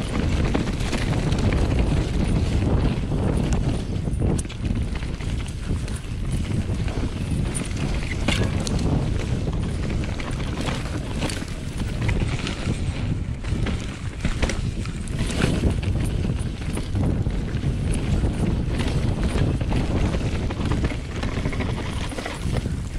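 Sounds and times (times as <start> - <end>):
bike knocking and rattling: 0.0 - 22.9
tyres rumbling on dirt: 0.0 - 22.9
wind buffeting microphone: 0.0 - 22.9.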